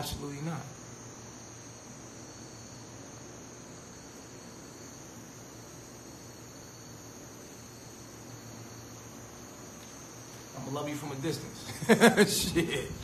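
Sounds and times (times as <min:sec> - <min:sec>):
constant hiss: 0:00.0 - 0:13.0
high steady whine: 0:00.0 - 0:13.0.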